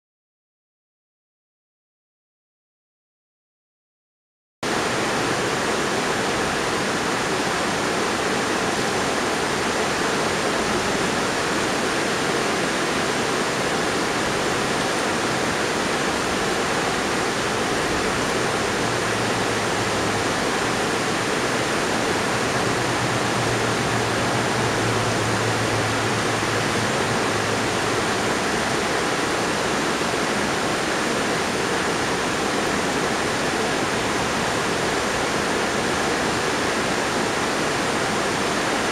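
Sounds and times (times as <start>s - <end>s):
river water over rocks: 4.7s - 38.9s.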